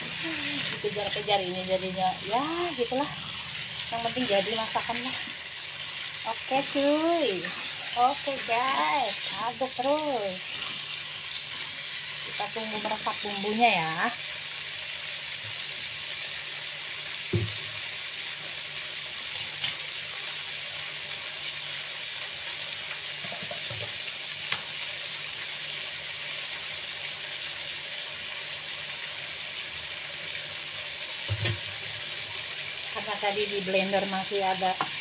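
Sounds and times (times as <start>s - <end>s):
food sizzling in a wok: 0.0s - 35.0s.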